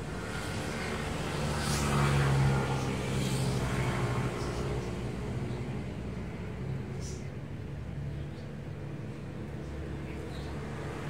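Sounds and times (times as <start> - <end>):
passing vehicle engine hum: 0.0 - 8.1, 9.1 - 11.0.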